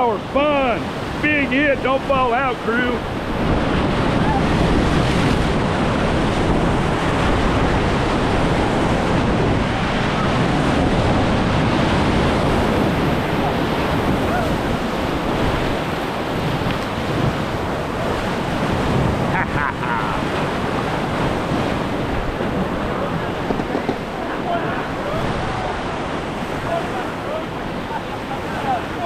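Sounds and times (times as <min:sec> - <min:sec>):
whitewater rushing and crashing: 0:00.0 - 0:29.0
wind buffeting microphone: 0:00.0 - 0:29.0.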